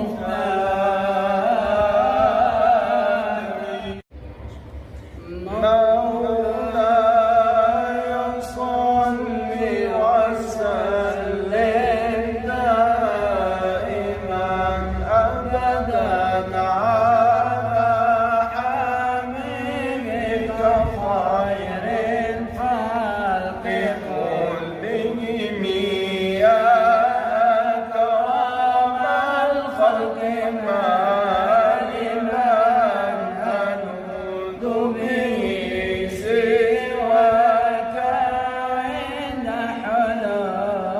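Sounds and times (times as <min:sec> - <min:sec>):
man chanting melodic poem: 0:00.0 - 0:04.0, 0:05.2 - 0:40.9.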